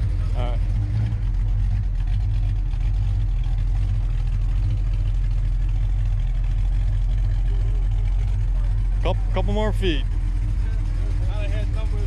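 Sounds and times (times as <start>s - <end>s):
car engine idling with lumpy rumble: 0.0s - 12.0s.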